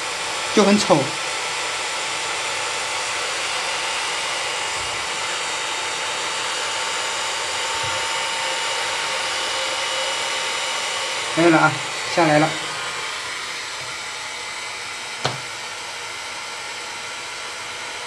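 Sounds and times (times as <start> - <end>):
hot-air gun hissing: 0.0 - 18.0.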